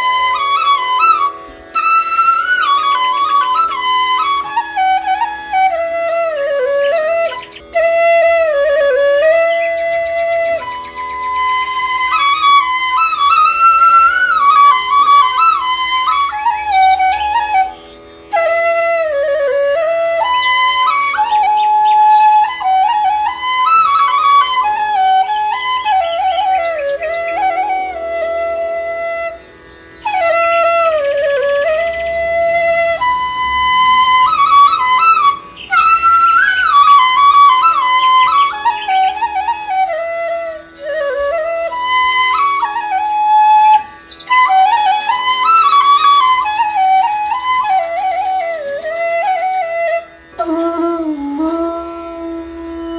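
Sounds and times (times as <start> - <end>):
flute playing slow melody: 0.0 - 52.9.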